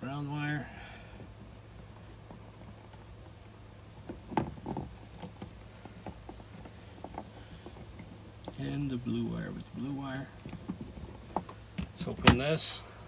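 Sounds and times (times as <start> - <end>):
steady low hum: 0.0 - 13.0
clicks and knocks of handling plastic: 1.1 - 12.6.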